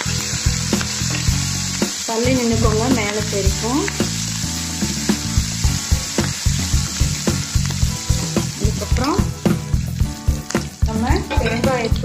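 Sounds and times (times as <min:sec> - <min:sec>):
hot oil sizzling and spattering: 0:00.0 - 0:12.0.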